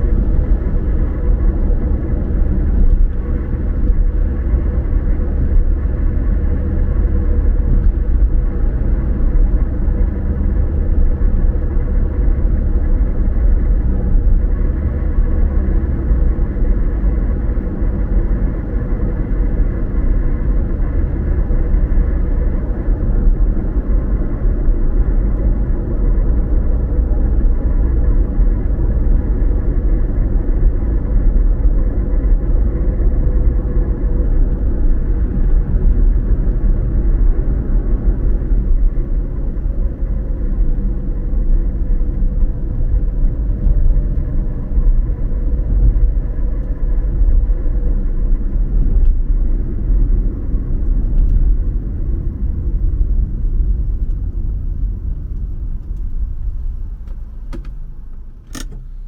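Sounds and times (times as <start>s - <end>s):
car interior road noise: 0.0s - 59.0s.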